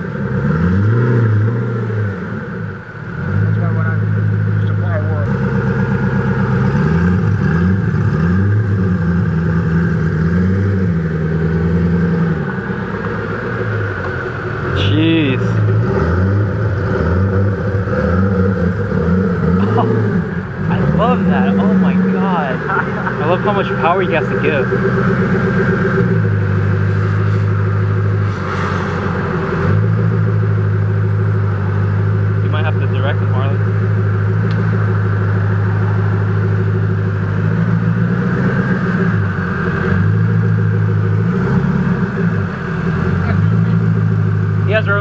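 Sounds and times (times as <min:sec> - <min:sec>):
car engine at low revs: 0:00.0 - 0:45.0.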